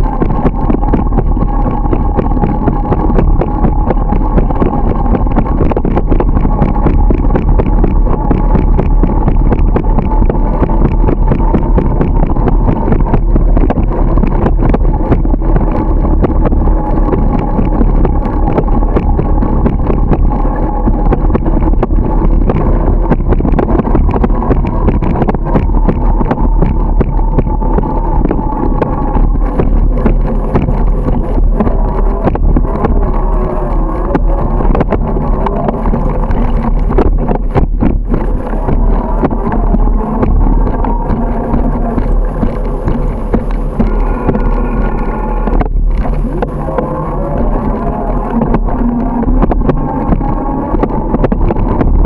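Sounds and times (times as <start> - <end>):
wind rumbling on microphone: 0.0 - 52.0.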